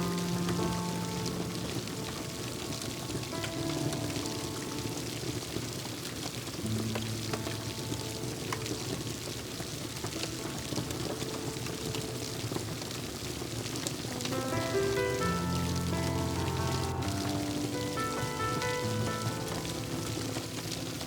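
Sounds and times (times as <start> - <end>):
soft background music: 0.0 - 21.0
steady rain: 0.0 - 21.0
wood fire crackling and popping: 0.0 - 21.0.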